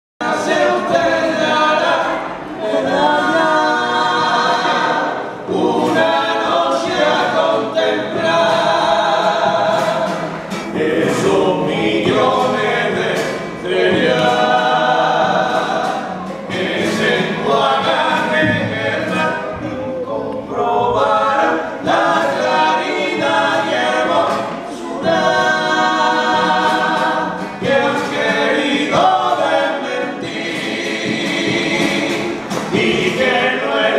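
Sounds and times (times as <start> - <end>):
men singing in harmony: 0.2 - 33.9
strummed guitar: 0.2 - 33.9.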